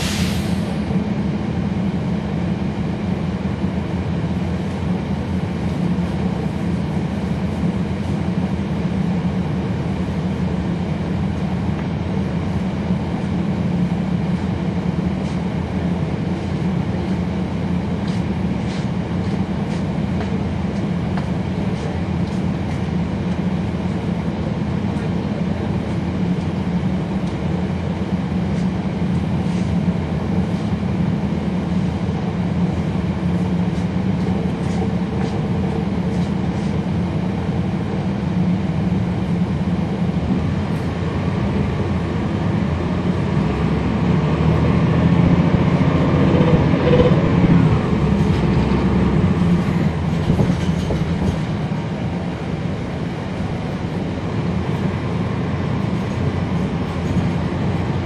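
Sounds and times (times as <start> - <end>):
bus diesel engine drone: 0.0 - 58.0
engine cooling fans: 0.0 - 58.0.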